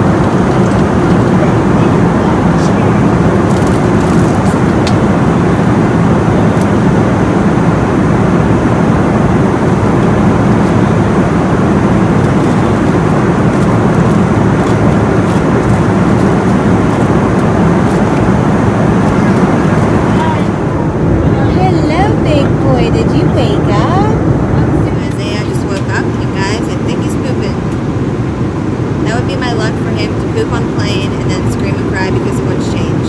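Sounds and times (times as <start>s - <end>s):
airliner cabin engine rumble: 0.0s - 33.0s.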